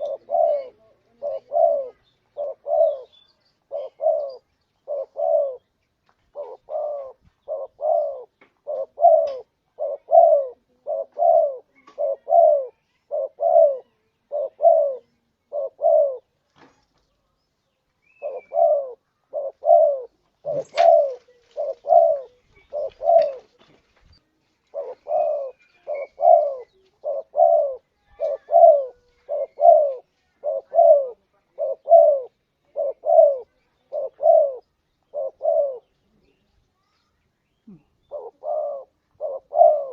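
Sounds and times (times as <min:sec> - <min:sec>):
dove cooing: 0:00.0 - 0:05.7, 0:06.3 - 0:16.4, 0:18.1 - 0:23.6, 0:24.7 - 0:36.3, 0:37.6 - 0:39.9.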